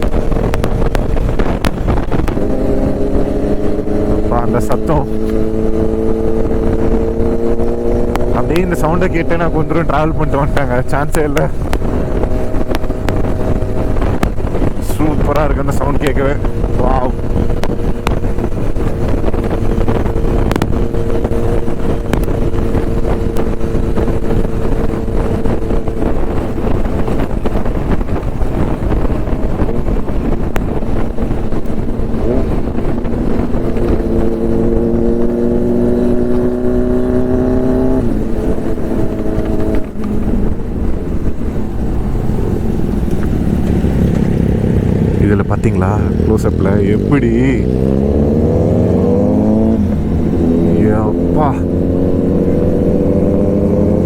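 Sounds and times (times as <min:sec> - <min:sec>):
motorcycle engine running: 0:00.0 - 0:54.0
wind and road rush: 0:00.0 - 0:54.0.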